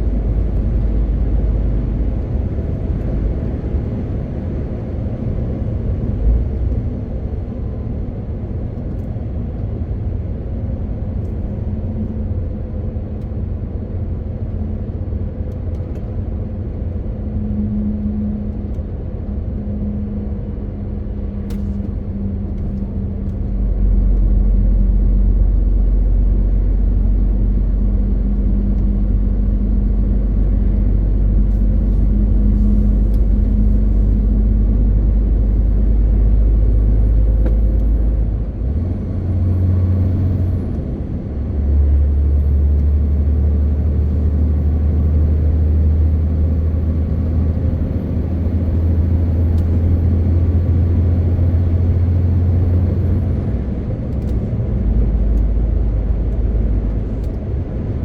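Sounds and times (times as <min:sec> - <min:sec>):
truck diesel engine droning: 0:00.0 - 0:07.9, 0:11.5 - 0:58.0.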